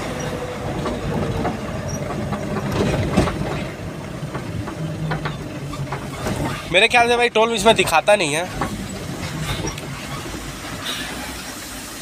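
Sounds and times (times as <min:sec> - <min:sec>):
cab rattling: 0:00.0 - 0:11.4
truck engine running: 0:00.0 - 0:12.0.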